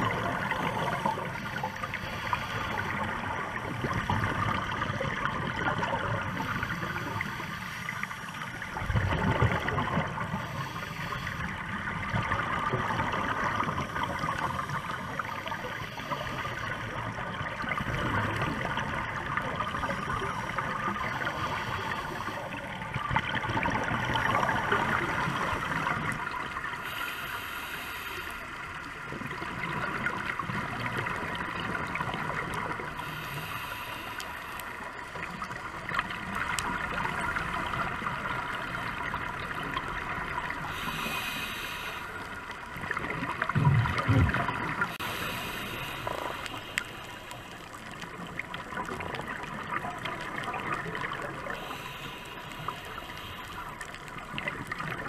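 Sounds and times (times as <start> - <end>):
underwater gurgling and bubbles: 0.0 - 55.0.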